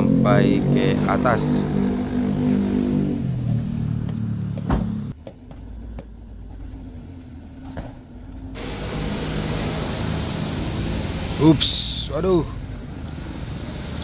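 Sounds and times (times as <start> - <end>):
bus engine under load: 0.0 - 14.0.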